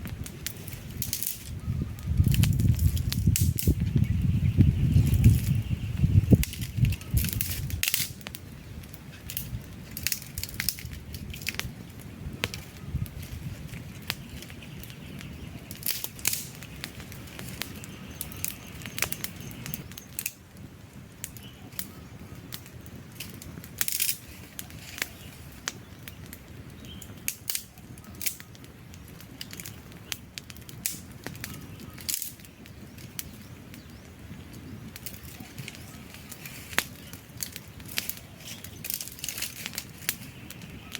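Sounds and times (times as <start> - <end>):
rush of flame: 0.0 - 40.9
wood fire crackling: 0.0 - 40.9.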